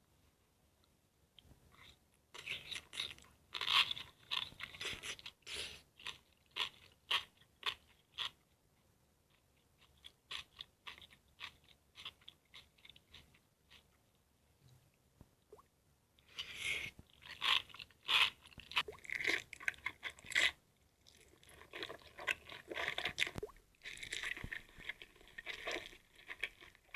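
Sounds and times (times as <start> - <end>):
crisp food chewing crunches: 1.8 - 8.5, 9.3 - 13.9, 16.2 - 26.9.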